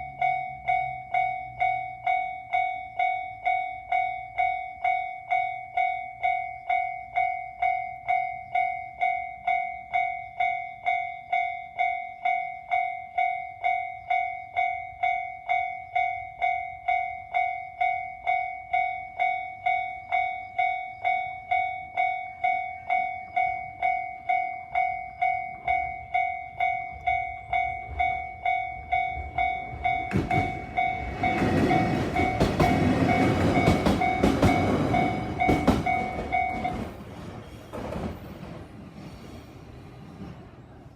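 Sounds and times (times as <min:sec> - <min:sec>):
level-crossing bell ringing: 0:00.0 - 0:37.2
train wheels running: 0:00.0 - 0:40.9.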